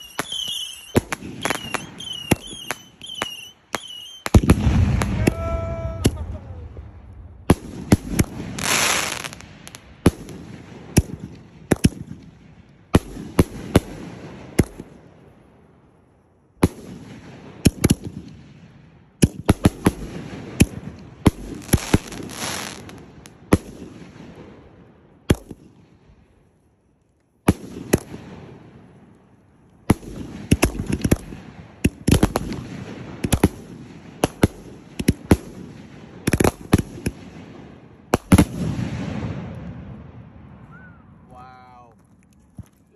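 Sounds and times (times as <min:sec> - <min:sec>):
fireworks bursting with echo: 0:00.0 - 0:15.6, 0:16.6 - 0:26.1, 0:27.4 - 0:41.4.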